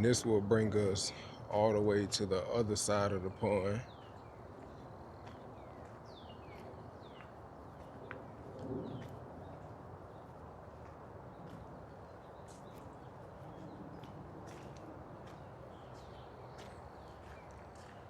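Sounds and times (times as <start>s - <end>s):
low outdoor hiss: 0.0s - 18.0s
songbird chirps: 0.0s - 18.0s.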